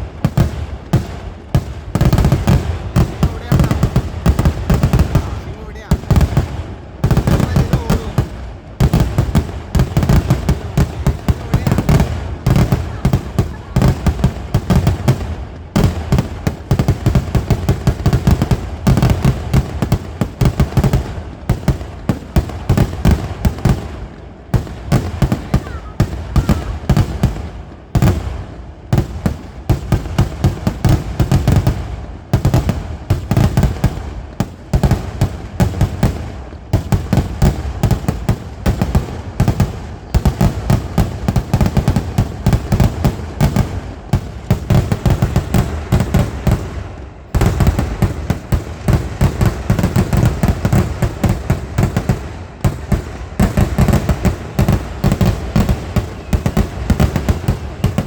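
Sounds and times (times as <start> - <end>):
fireworks exploding: 0.0 - 58.0.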